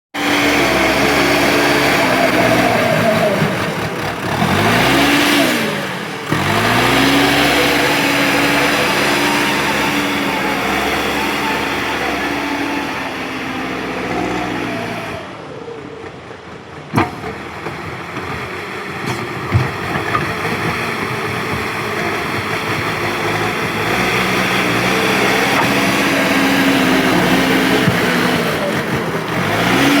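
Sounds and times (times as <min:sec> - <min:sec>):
bulldozer engine running: 0:00.2 - 0:30.0.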